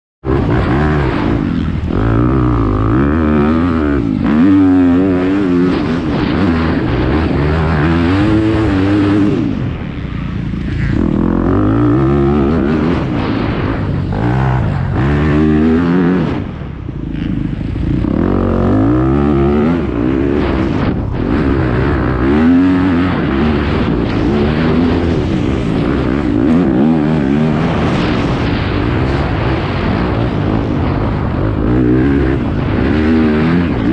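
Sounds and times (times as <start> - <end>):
dirt bike engine revving: 0.2 - 33.9.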